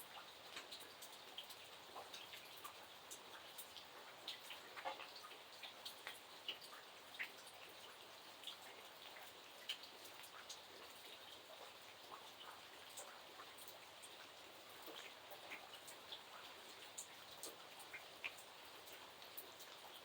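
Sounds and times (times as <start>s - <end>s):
faint rain hiss: 0.0s - 20.0s
raindrops ticking: 0.0s - 20.0s.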